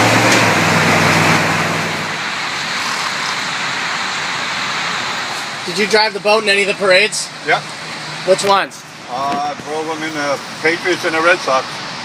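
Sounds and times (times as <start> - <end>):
boat engine drone: 0.0 - 12.0
road and traffic noise: 0.0 - 12.0.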